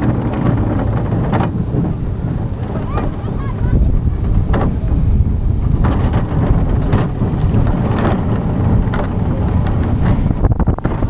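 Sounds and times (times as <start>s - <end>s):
roller coaster rumbling on track: 0.0s - 11.0s
wind buffeting microphone: 0.0s - 11.0s.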